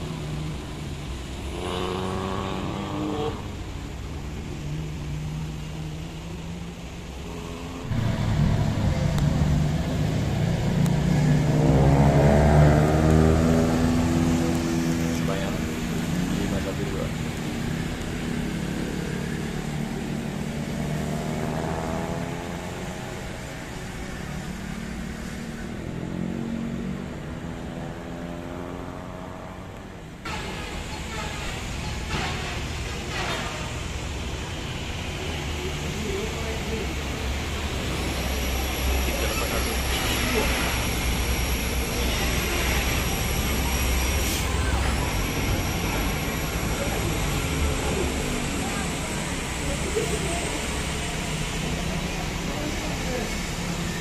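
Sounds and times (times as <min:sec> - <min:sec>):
minibus engine running under load: 0:00.0 - 0:26.3, 0:29.6 - 0:54.0.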